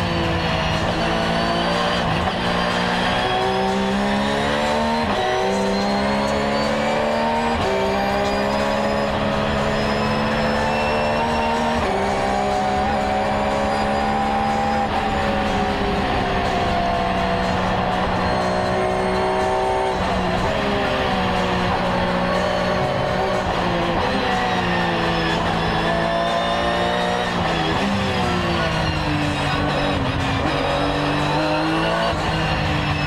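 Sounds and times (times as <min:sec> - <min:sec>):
car engine from inside cabin: 0:00.0 - 0:28.0
road and tyre noise: 0:00.0 - 0:33.0.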